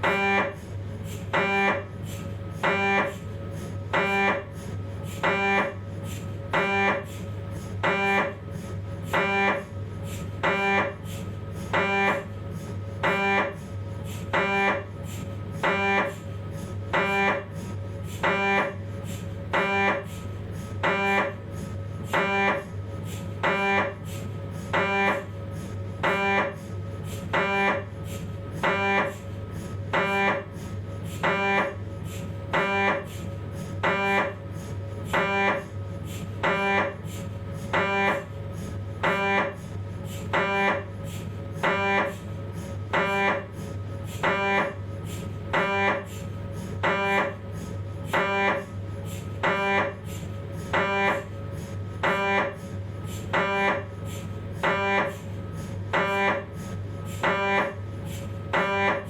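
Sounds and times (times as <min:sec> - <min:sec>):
continuous low hum: 0:00.0 - 0:59.0
mri scanner buzzing pulses: 0:00.0 - 0:59.0.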